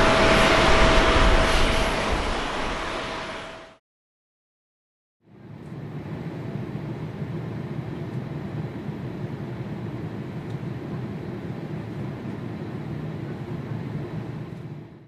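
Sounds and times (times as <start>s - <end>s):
airliner cabin drone: 0.0s - 3.8s, 5.3s - 15.0s.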